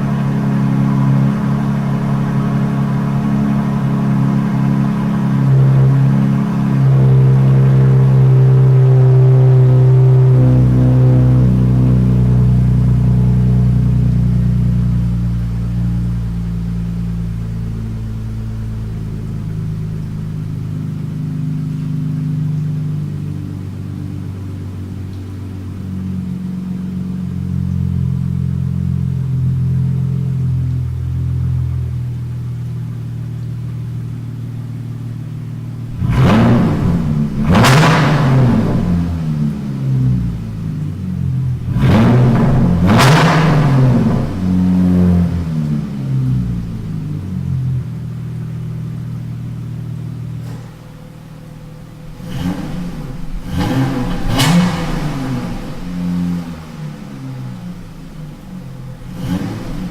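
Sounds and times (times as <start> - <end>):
car exhaust droning: 0.0 - 59.9.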